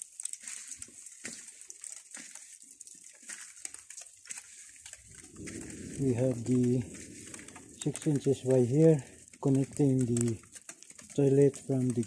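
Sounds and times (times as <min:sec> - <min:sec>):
light rain patter: 0:00.0 - 0:12.0.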